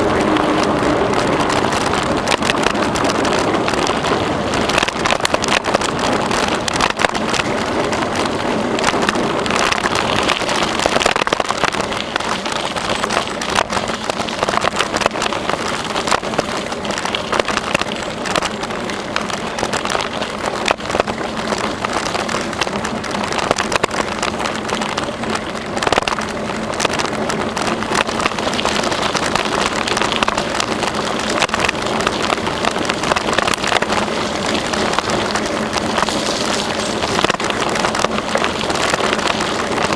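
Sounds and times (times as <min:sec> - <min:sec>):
bicycle tyres on trail: 0:00.0 - 0:39.9
bike rattling and clicking: 0:00.0 - 0:39.9.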